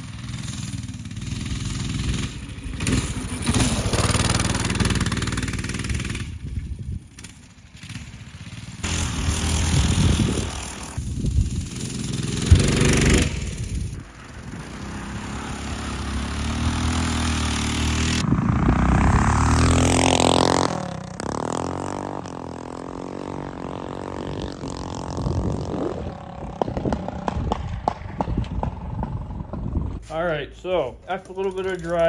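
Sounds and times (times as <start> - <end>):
small engine revving: 0.0 - 30.1.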